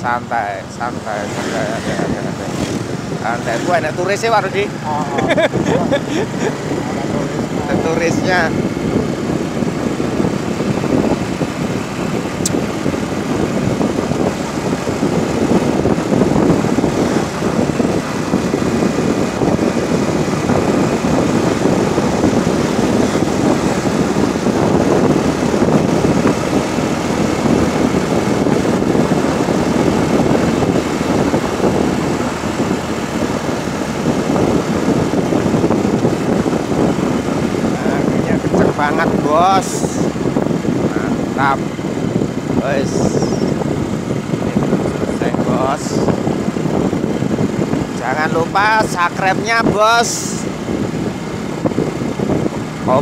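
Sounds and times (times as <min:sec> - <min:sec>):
motorcycle engine: 0:00.0 - 0:53.0
road noise: 0:00.0 - 0:53.0
wind buffeting microphone: 0:00.0 - 0:53.0.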